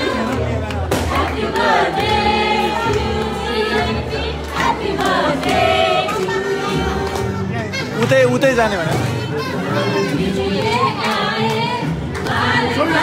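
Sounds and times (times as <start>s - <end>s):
group of people singing: 0.0s - 7.5s, 9.1s - 13.0s.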